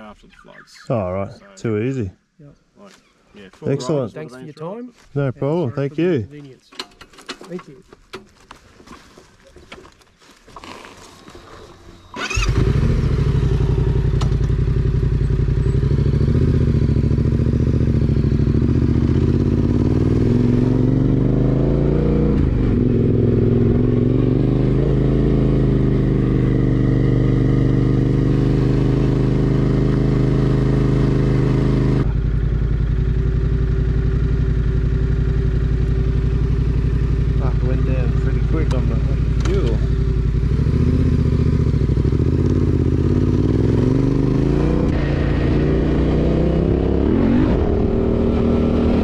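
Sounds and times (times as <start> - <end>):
motorcycle engine starting and running: 9.6 - 49.0.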